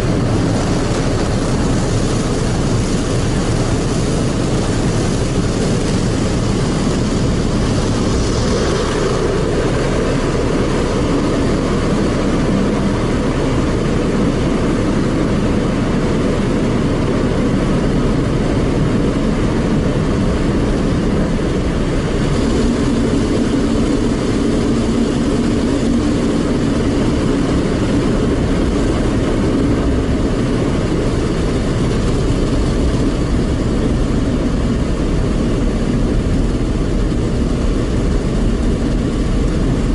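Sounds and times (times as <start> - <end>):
car wash machine running: 0.0 - 39.9
steady hum: 0.0 - 39.9.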